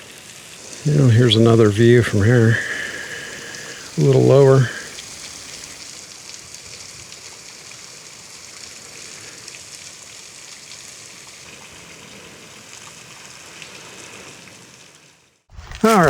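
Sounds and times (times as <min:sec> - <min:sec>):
water trickling down waterfall: 0:00.0 - 0:16.0.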